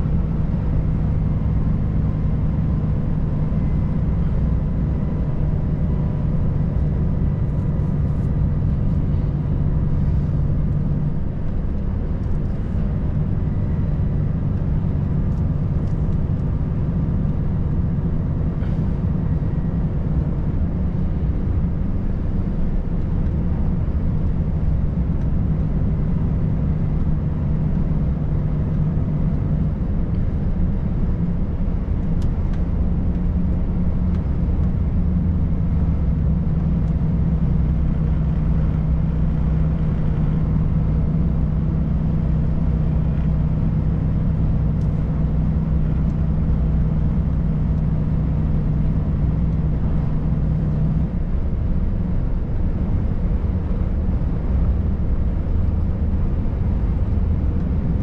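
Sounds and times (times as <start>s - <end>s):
road noise: 0.0s - 58.0s
truck diesel engine droning: 0.0s - 58.0s.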